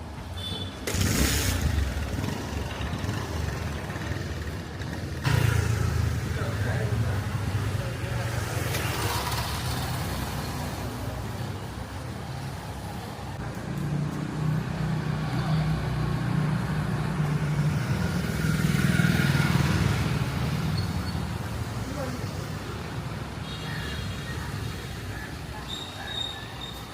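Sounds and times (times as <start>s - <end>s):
vehicles passing close by: 0.0s - 26.9s
vehicle engines running: 0.9s - 23.4s.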